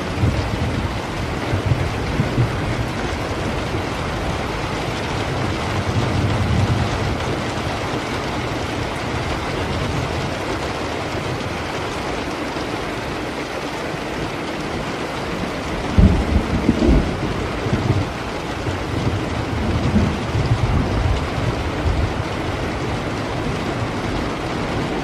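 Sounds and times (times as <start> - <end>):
distant thunder rumbling: 0.0 - 13.4, 14.0 - 25.0
steady rain: 0.0 - 25.0.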